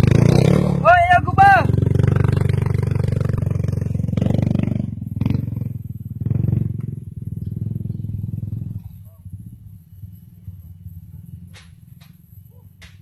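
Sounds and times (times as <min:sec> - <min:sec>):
dirt bike engine revving: 0:00.0 - 0:12.4.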